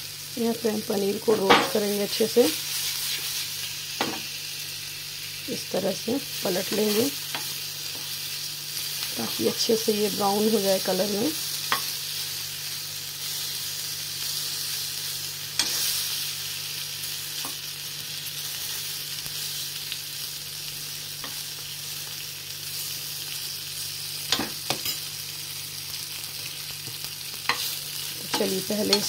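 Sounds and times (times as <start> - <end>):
paneer sizzling in a pan: 0.0 - 29.0.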